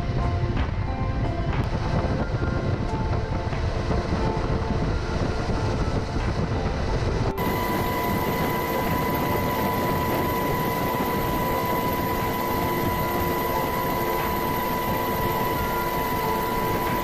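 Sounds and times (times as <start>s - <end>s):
aircraft engine drone with whine: 0.0s - 17.0s.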